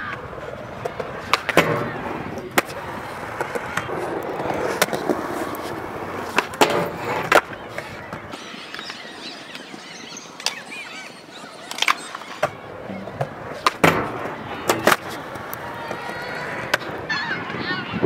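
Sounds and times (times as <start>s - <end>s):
skateboard clacks: 0.0s - 18.0s
skateboard wheels rolling on concrete: 0.0s - 18.0s.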